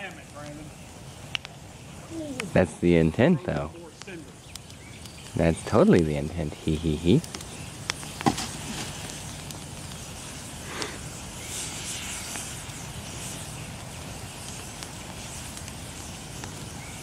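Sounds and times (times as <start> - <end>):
bonfire hissing and crackling: 0.0 - 17.0.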